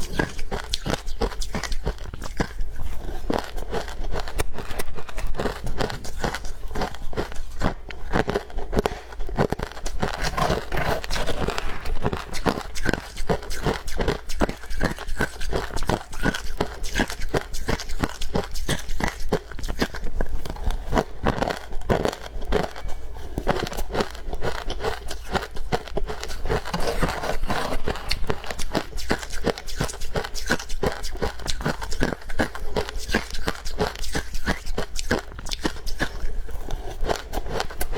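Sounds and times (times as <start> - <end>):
chewing crunchy frost: 0.0 - 37.9.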